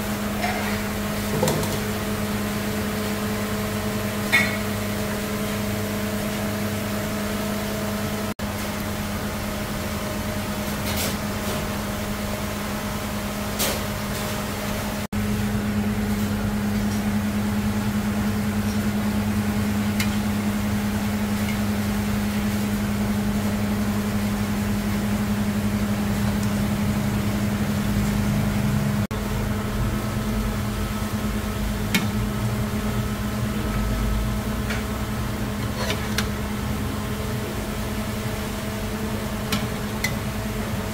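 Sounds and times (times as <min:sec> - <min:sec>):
kitchen machinery humming: 0:00.0 - 0:40.9.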